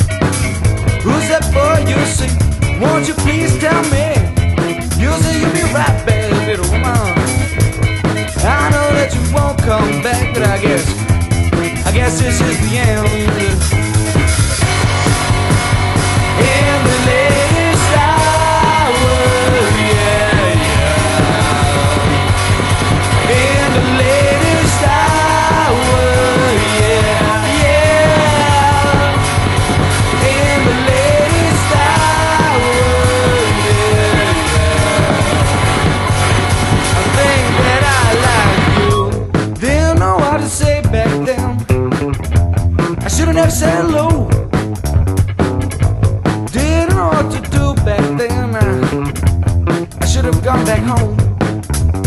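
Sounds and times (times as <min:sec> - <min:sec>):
bending lead guitar line: 0:00.0 - 0:52.0
rock band song: 0:00.0 - 0:52.0.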